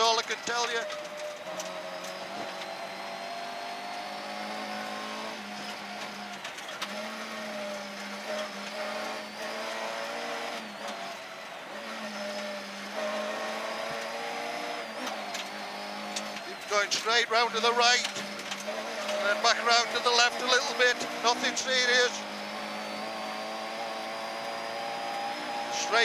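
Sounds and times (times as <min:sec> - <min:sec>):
rally car engine running hard: 0:00.0 - 0:26.0
road noise: 0:00.0 - 0:26.0.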